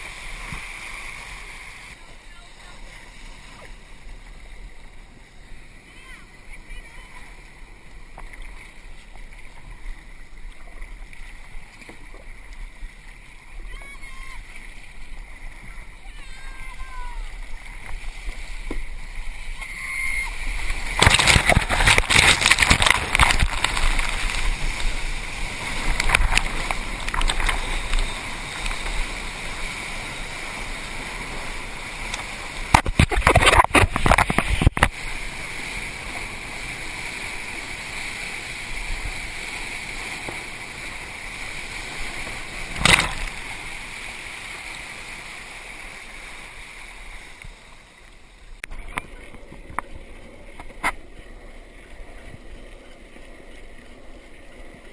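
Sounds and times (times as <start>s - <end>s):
water splashing against kayak: 0.0s - 54.9s.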